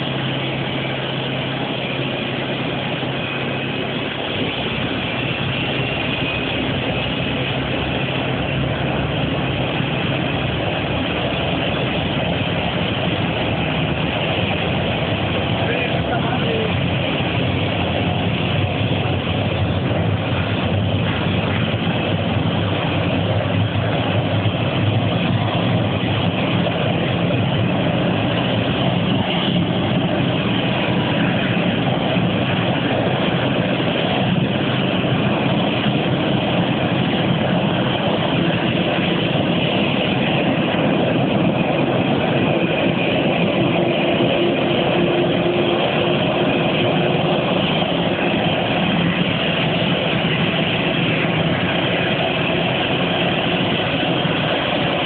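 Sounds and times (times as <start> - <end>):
jet engine running: 0.0 - 55.0.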